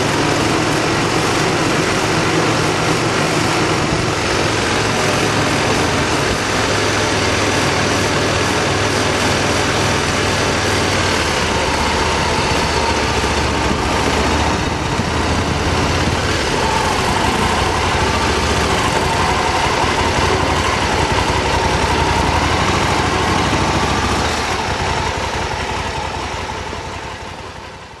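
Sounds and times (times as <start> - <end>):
motorcycle engine running: 0.0 - 28.0
steady rushing noise: 0.0 - 28.0.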